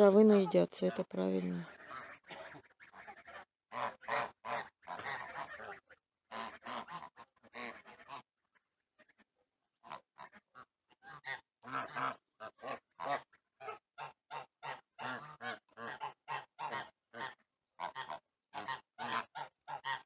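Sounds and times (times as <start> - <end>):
geese honking: 0.0 - 8.2, 9.8 - 20.0.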